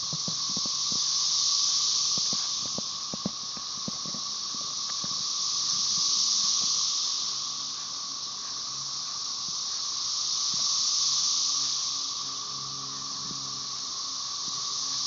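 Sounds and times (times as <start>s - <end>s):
cicadas high hissing buzz: 0.0s - 15.0s
cicadas low drone: 0.0s - 15.0s.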